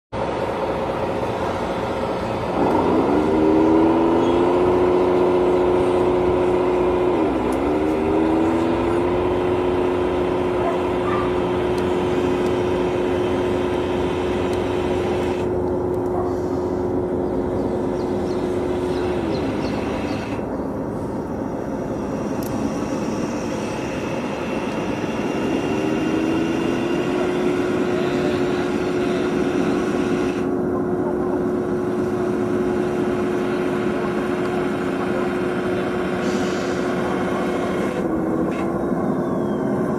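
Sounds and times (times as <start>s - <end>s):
heavy truck engine running: 0.1s - 39.9s
road and wind noise: 0.1s - 39.9s.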